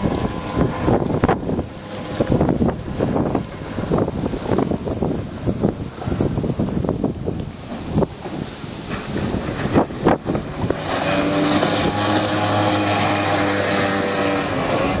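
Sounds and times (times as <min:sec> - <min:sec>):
outboard motor at high speed: 0:00.0 - 0:15.0
wind buffeting microphone: 0:00.0 - 0:15.0.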